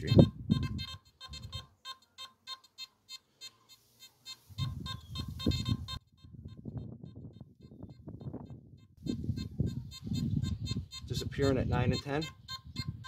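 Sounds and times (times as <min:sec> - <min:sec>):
metal detector short beeps: 0:00.0 - 0:08.0, 0:09.1 - 0:13.0.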